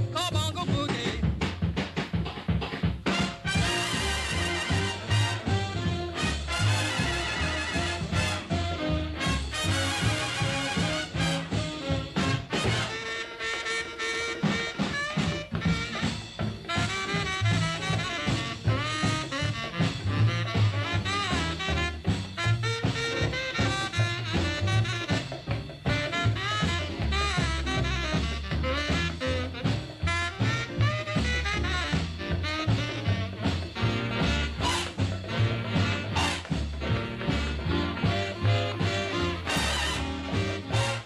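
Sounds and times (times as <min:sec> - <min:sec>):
stepping bass line: 0:00.0 - 0:13.0, 0:14.3 - 0:41.0
drum kit swing beat: 0:00.0 - 0:41.0
saxophone-led horn band: 0:03.0 - 0:41.0.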